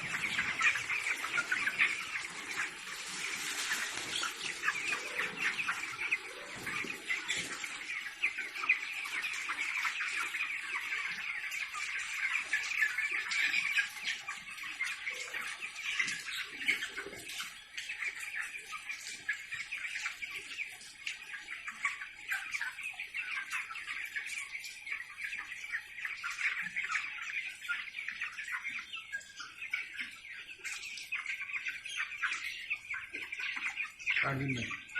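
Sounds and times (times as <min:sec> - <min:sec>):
flock of chickens calling: 0:00.0 - 0:34.9.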